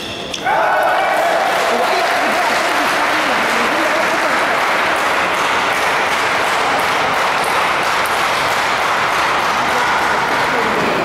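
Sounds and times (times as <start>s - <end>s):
crowd applause and chatter: 0.0s - 11.0s.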